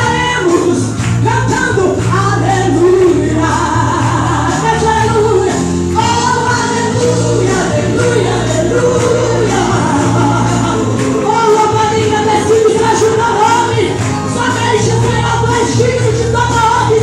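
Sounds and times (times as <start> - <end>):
band accompaniment with bass line: 0.0 - 17.0
gospel singing: 0.0 - 17.0.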